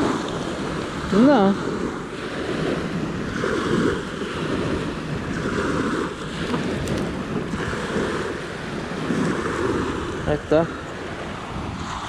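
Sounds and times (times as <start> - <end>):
waves washing on shore: 0.0 - 12.0
wind noise on microphone: 0.0 - 12.0.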